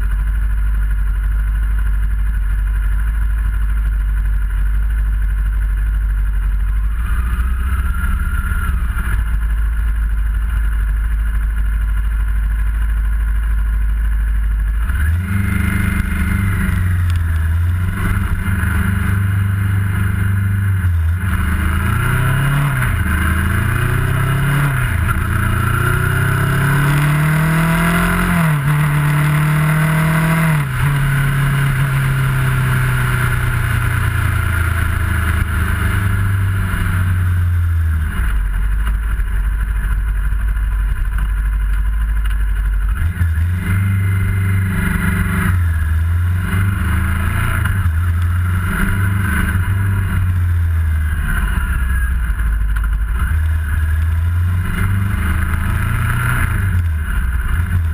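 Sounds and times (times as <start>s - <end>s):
motorcycle engine revving: 6.2s - 57.9s.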